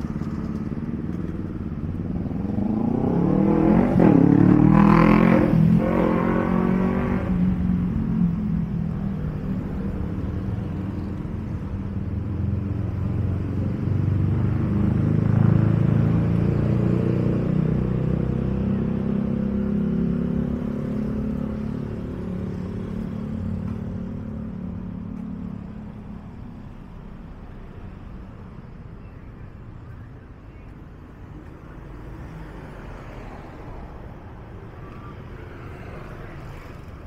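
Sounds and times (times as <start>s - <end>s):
vehicle engines running: 0.0s - 37.0s.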